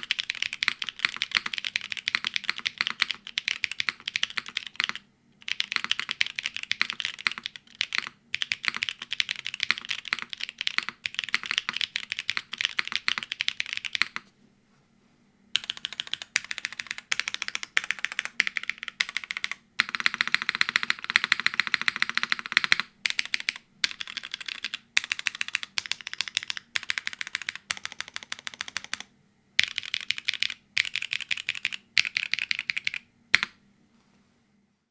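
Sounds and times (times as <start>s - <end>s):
mechanical keyboard typing: 0.0s - 14.2s, 15.6s - 33.6s.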